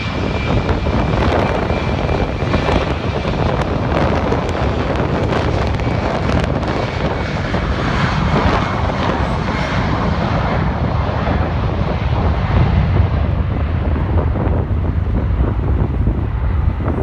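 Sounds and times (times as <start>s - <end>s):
jet engines roaring: 0.0s - 17.0s
wind rumbling on microphone: 0.0s - 17.0s.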